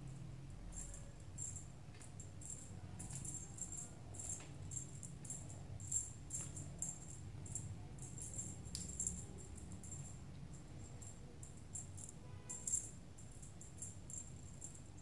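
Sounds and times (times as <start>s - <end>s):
low steady hum: 0.0s - 15.0s
small jingle bell shaken: 0.7s - 15.0s.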